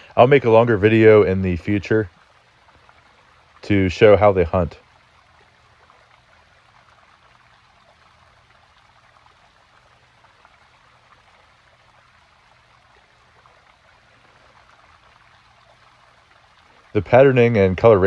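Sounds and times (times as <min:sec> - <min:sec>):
faint stream water rushing: 0:00.0 - 0:18.0.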